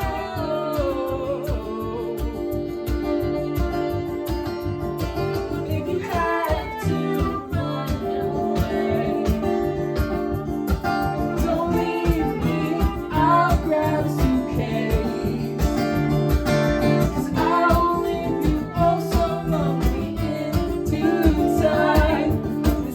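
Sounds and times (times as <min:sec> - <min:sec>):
acoustic guitars strumming: 0:00.0 - 0:22.9
sliding melody line: 0:02.7 - 0:22.9.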